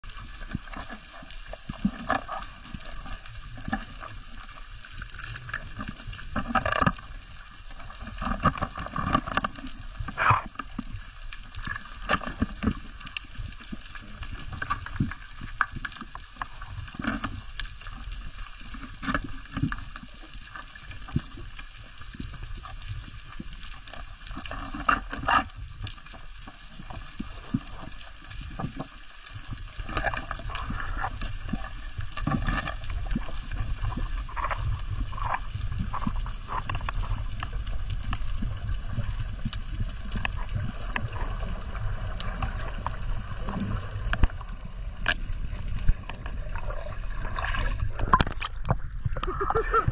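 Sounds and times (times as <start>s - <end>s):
underwater crackling clicks: 0.1s - 49.6s.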